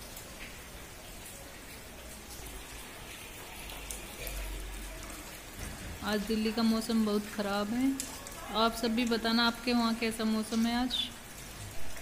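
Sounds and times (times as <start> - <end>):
rain splashing into standing water: 0.0 - 12.0.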